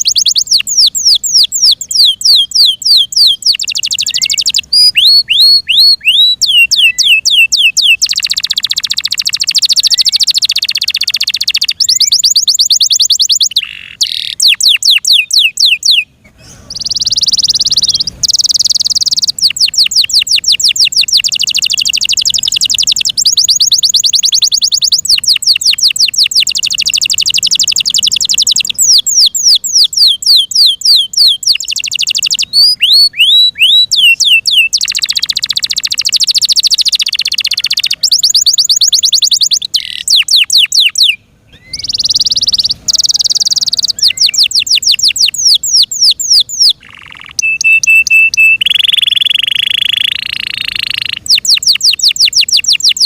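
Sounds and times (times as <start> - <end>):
canary singing fast trills: 0.0 - 53.0.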